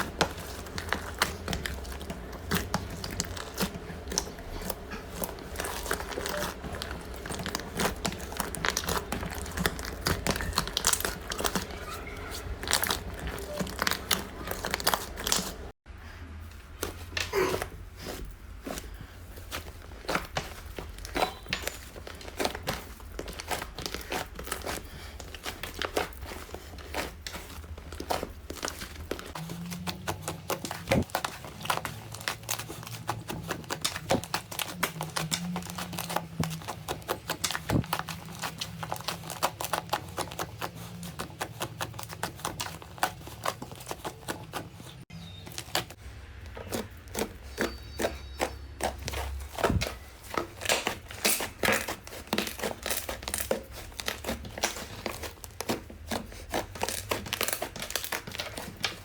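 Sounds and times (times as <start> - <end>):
slime crackling and popping: 0.0 - 15.8, 16.8 - 46.0, 46.6 - 59.0.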